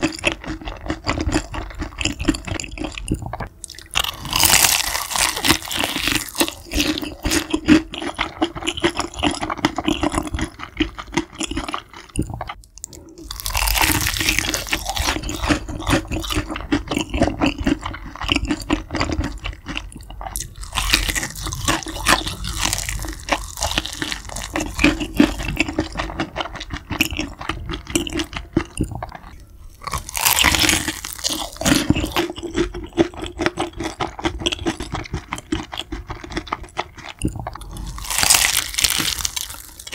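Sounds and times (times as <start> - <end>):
crunching bites: 0.0 - 12.2, 13.2 - 29.2, 29.8 - 39.9
crackly chewing: 0.0 - 39.9.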